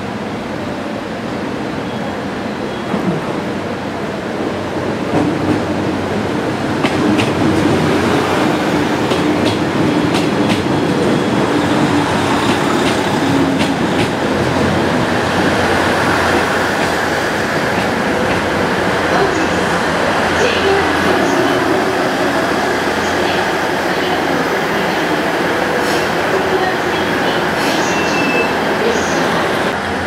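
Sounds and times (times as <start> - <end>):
train running noise: 0.0 - 30.0.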